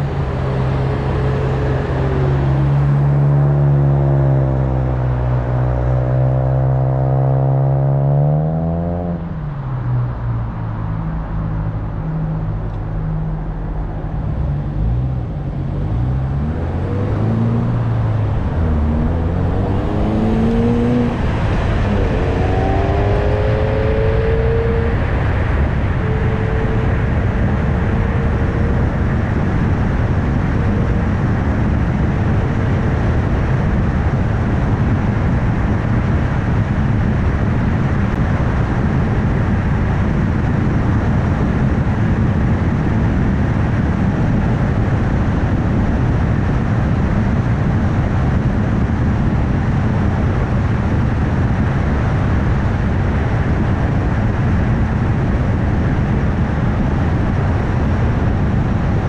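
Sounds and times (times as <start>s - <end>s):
car engine hum: 0.0s - 59.0s
car tyre and road noise: 0.0s - 59.0s.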